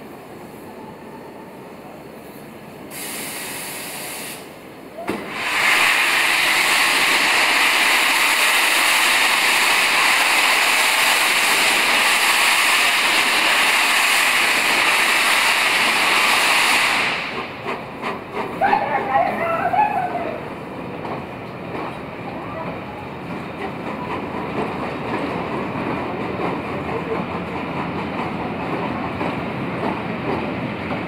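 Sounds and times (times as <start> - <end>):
steam locomotive venting steam: 2.2 - 31.0.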